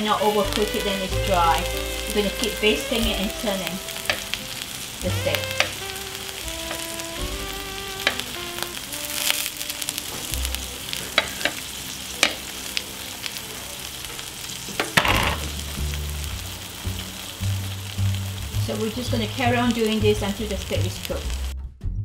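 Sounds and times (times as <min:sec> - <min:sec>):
steaks sizzling on a hotplate: 0:00.0 - 0:21.5.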